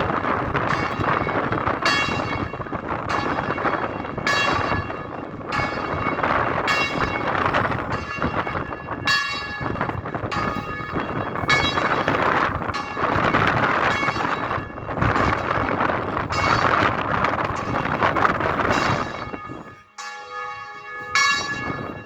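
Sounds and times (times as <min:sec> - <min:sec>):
bells ringing: 0:00.0 - 0:22.0
steady wind noise: 0:00.0 - 0:22.0.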